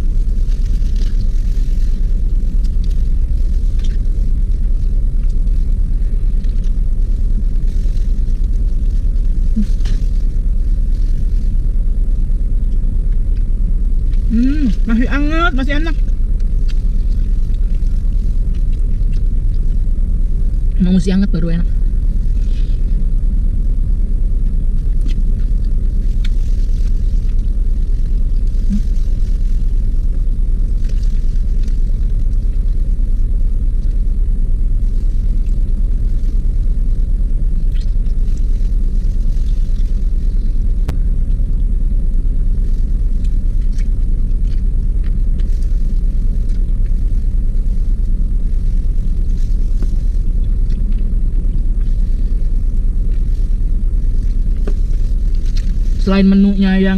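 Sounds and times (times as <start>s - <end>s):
clicks and rustles of eating: 0.0s - 12.0s, 15.9s - 20.6s, 24.3s - 56.0s
car engine idling: 0.0s - 56.9s.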